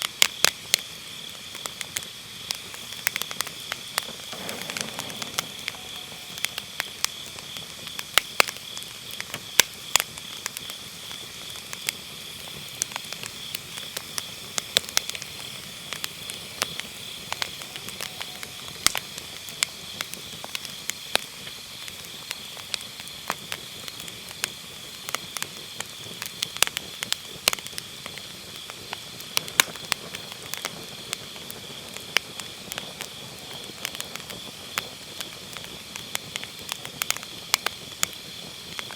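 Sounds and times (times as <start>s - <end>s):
grass insects trilling: 0.0s - 38.9s
wood fire crackling and popping: 0.0s - 38.9s.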